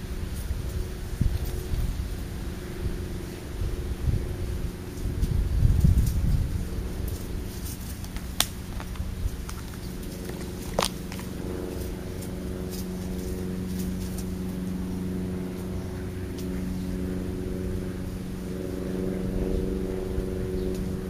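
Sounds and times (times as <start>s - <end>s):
motor humming steadily: 0.0s - 21.0s.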